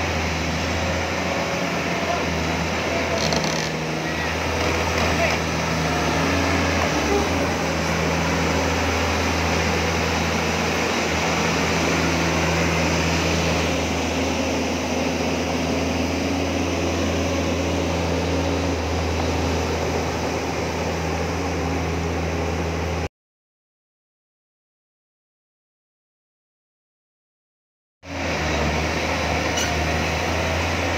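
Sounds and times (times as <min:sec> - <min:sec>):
excavator diesel engine droning: 0:00.0 - 0:23.1, 0:28.0 - 0:30.9.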